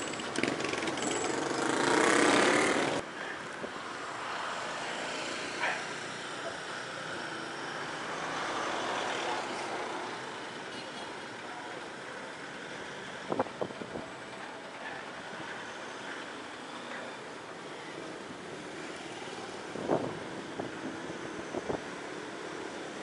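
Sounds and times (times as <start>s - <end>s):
street traffic noise: 0.0s - 23.0s.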